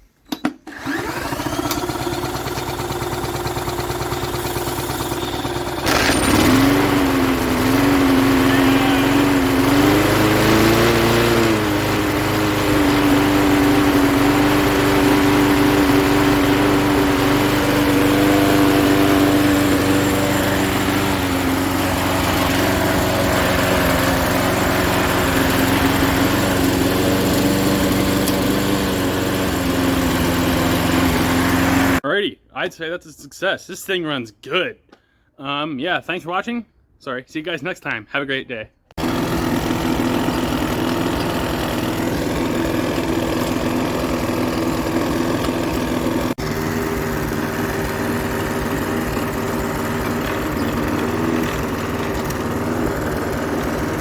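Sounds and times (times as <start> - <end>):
lawn mower engine running: 0.4 - 32.0, 39.0 - 54.0.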